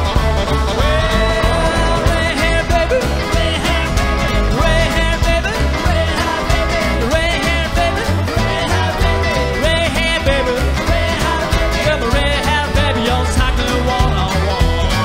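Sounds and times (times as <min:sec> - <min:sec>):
rockabilly band playing: 0:00.0 - 0:15.0.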